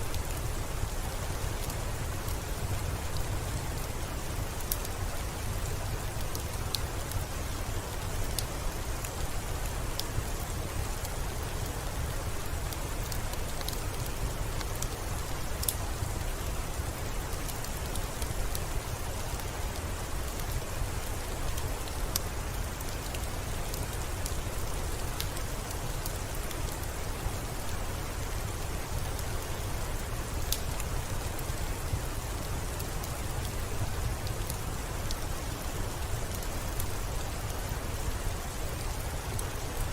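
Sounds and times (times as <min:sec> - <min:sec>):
soft steady rain: 0:00.0 - 0:39.9.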